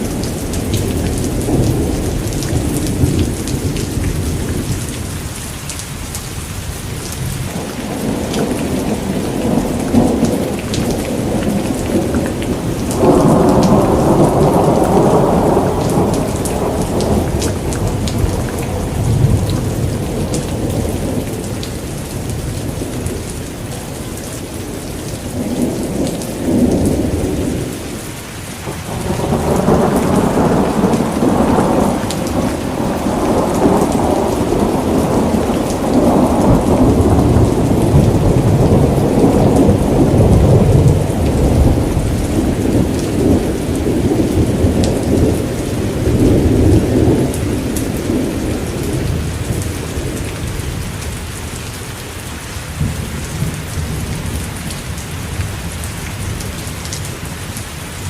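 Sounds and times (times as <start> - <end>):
rolling thunder rumbles: 0.0 - 5.4, 7.0 - 51.6
steady rain hissing: 0.0 - 58.0.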